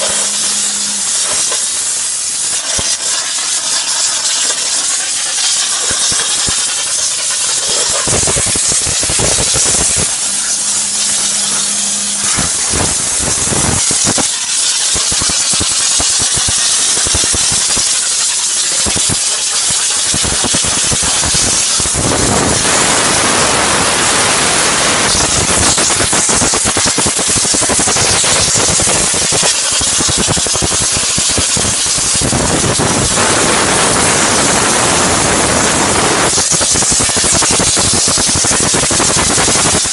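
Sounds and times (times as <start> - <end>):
high-pressure steam hissing: 0.0 - 39.9.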